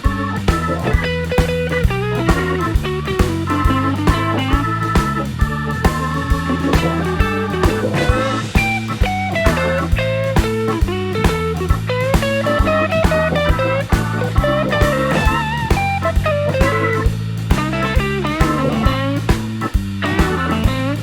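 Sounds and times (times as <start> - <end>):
bass: 0.0 - 21.0
blues-rock music: 0.0 - 21.0
lead electric guitar: 0.0 - 21.0
steady drum beat: 0.0 - 21.0.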